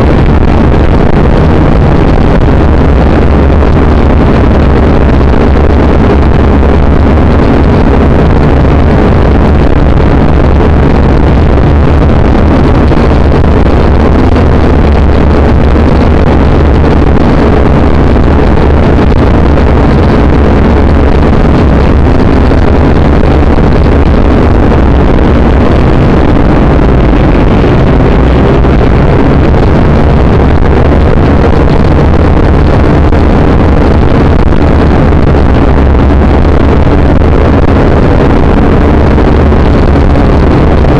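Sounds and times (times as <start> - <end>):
wind rush: 0.0 - 40.9.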